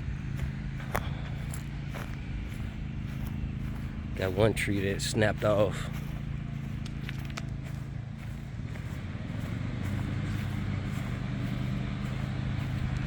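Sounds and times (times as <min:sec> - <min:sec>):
distant lawn mower engine: 0:00.0 - 0:13.0.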